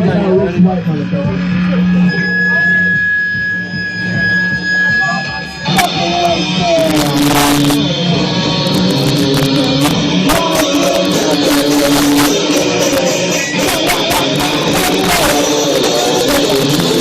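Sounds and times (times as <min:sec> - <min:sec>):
drums and cymbal hits: 0:00.0 - 0:17.0
electric guitar chords: 0:00.0 - 0:17.0
live rock band: 0:01.5 - 0:17.0.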